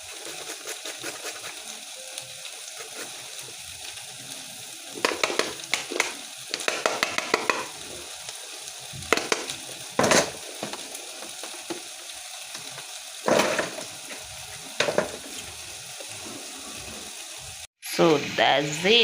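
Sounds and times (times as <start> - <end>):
beef sizzling in a pot: 0.0 - 19.0.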